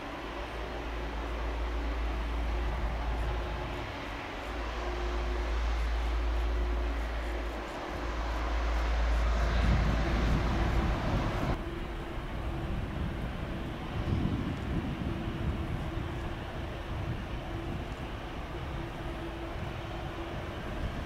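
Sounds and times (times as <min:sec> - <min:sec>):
jet airliner engines taxiing: 0:00.0 - 0:21.0.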